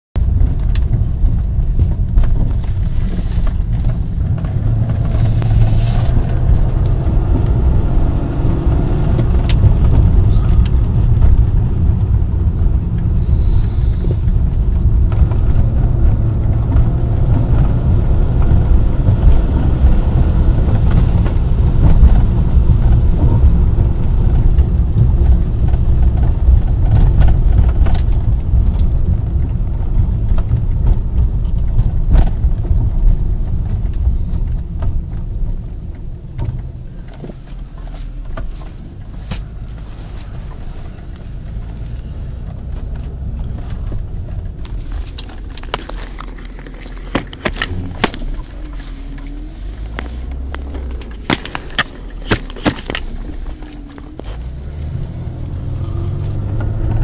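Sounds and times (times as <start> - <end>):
car engine and road noise: 0.1 - 57.0.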